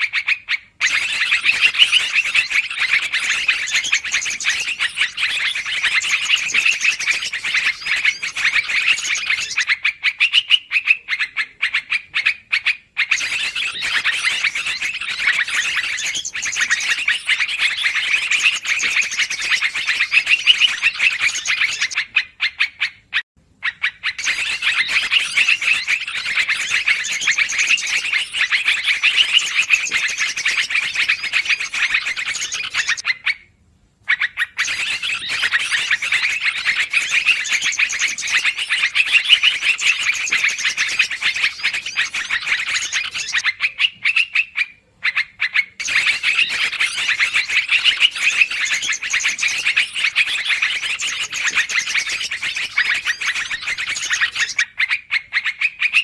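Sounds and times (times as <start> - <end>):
bulbuls chattering: 0.8 - 12.2, 13.0 - 22.1, 24.2 - 33.0, 34.6 - 44.0, 45.8 - 54.6.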